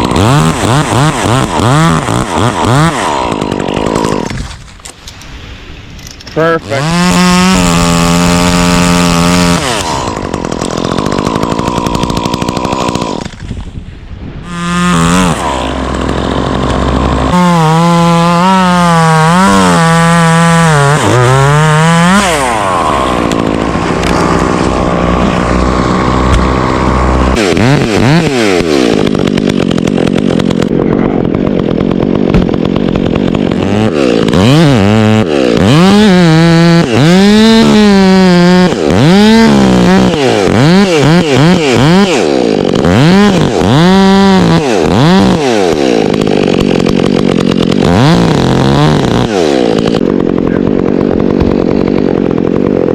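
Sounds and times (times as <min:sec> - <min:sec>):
chainsaw running: 0:00.0 - 0:05.2, 0:06.0 - 0:13.8, 0:14.4 - 0:52.9.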